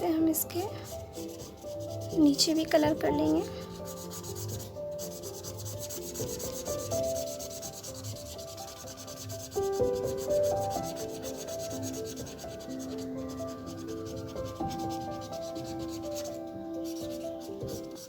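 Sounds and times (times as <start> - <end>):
soft background music: 0.0 - 18.0
felt-tip pen scribbling on paper: 0.4 - 18.0.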